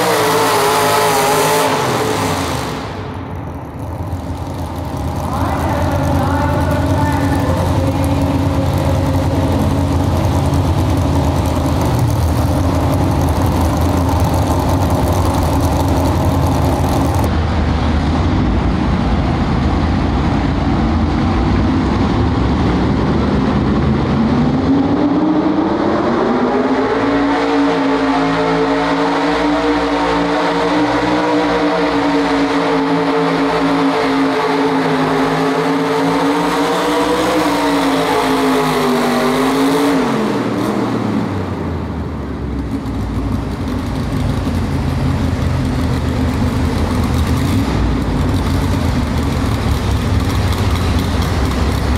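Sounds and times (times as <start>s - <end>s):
truck engine at full throttle: 0.0s - 51.9s
truck engine running: 0.0s - 51.9s.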